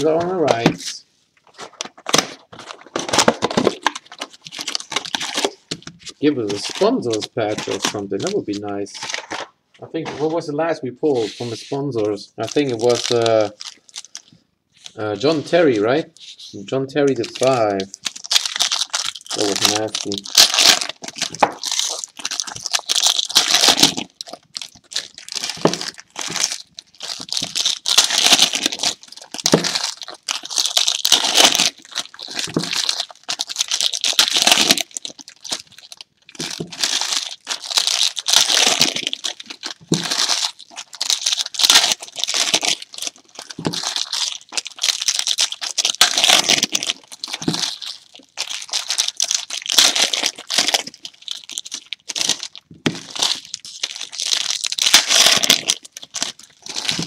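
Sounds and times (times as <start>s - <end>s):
foil wrappers tearing and crinkling: 1.4s - 9.5s, 12.4s - 14.3s, 17.0s - 57.0s.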